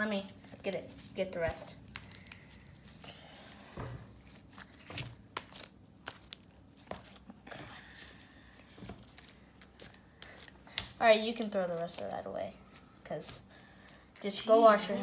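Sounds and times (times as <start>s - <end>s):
sticky slime crackles and squelches: 0.0s - 14.4s.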